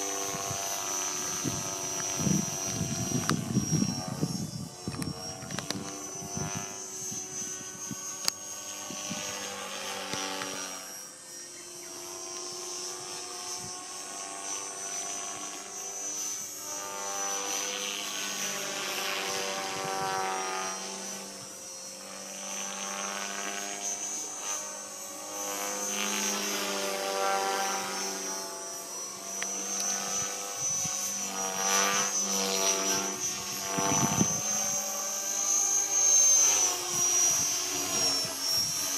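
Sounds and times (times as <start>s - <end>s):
model helicopter rotor drone: 0.0s - 38.9s
steady high whine: 0.0s - 38.9s.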